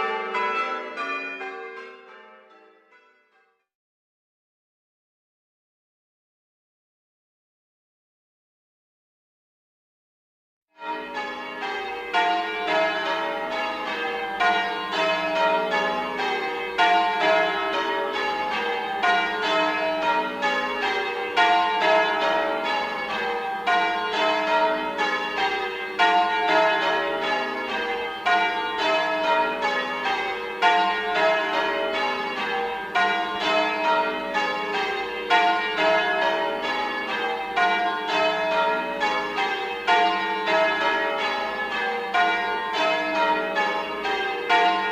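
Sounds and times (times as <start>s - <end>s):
peal of bells: 0.0s - 3.5s, 10.8s - 44.9s.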